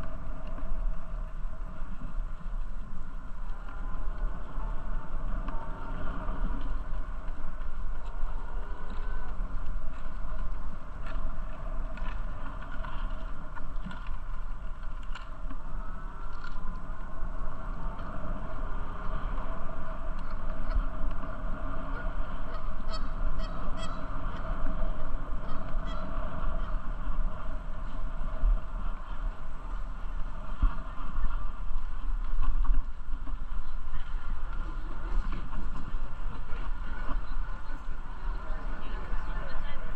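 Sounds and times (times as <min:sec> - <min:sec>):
bicycle rolling: 0:00.0 - 0:39.9
wind on microphone: 0:00.0 - 0:39.9.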